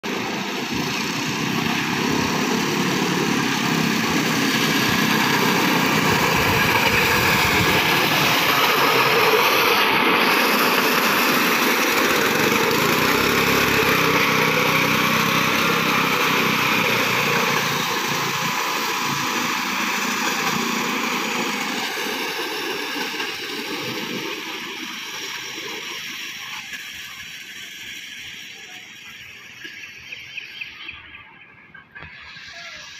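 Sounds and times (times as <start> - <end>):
small rail trolley engine passing: 0.0 - 32.9.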